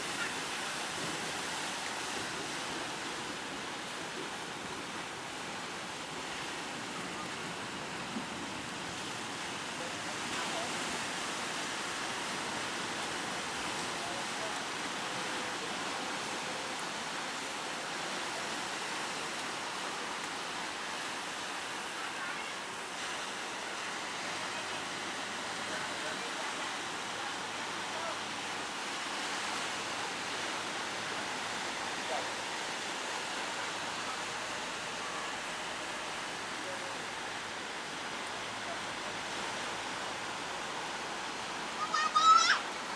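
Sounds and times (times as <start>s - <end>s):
heavy sea surf breaking: 0.0s - 42.9s.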